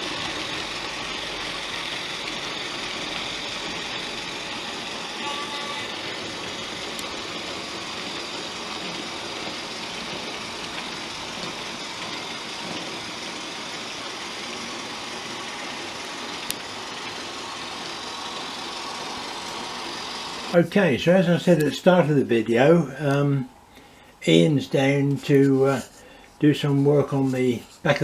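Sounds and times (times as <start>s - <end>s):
model train engine sound from speaker: 0.0s - 28.0s.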